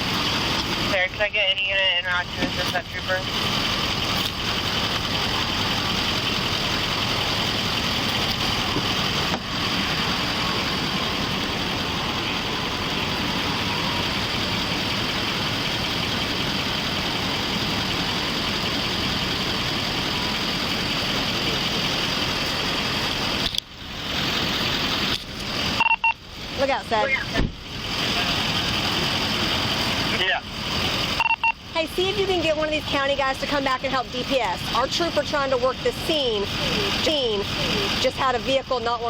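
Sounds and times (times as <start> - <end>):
motor vehicle rumble: 0.0 - 39.0.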